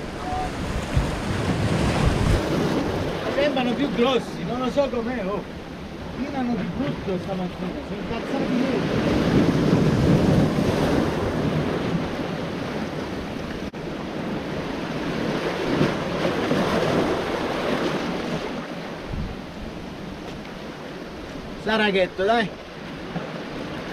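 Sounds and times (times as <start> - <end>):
wind buffeting microphone: 0.0 - 21.6
waves breaking against rocks: 0.0 - 23.9.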